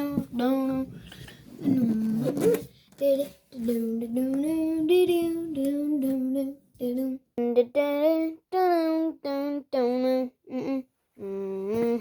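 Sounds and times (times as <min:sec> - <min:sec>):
child singing wordless tune: 0:00.0 - 0:12.0.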